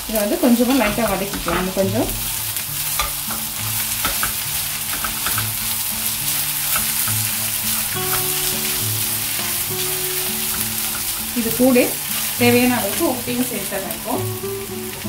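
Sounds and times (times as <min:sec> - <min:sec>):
onions sizzling in oil: 0:00.0 - 0:15.0
spatula scraping pan: 0:00.4 - 0:13.2.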